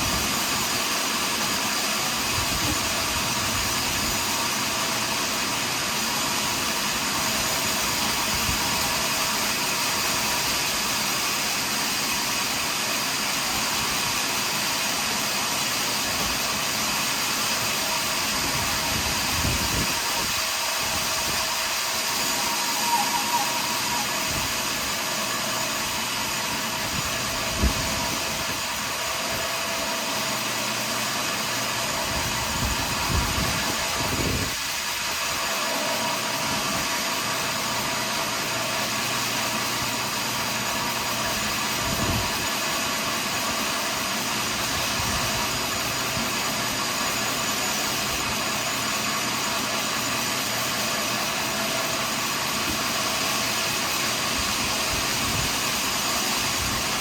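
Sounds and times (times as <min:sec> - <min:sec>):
sawmill cutting a log: 0:00.0 - 0:57.0.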